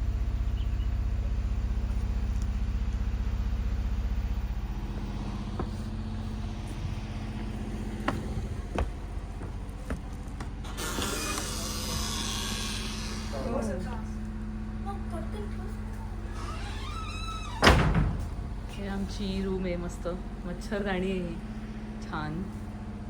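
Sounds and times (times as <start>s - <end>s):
low motor hum with pulsing beat: 0.0s - 16.4s, 17.0s - 23.0s.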